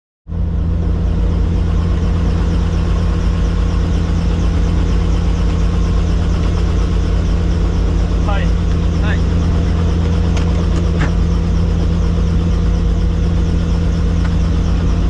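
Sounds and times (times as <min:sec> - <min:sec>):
helicopter rotor drone: 0:00.3 - 0:15.0.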